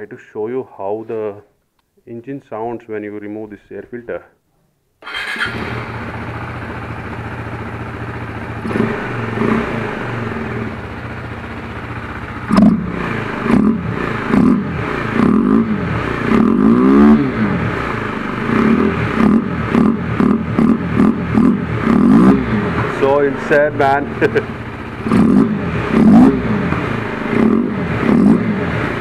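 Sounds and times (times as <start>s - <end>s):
motorcycle engine revving: 5.0s - 29.0s.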